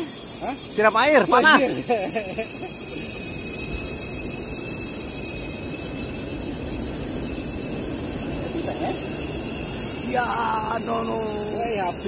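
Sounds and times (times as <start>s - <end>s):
fishing reel drag whirring: 0.0s - 12.0s.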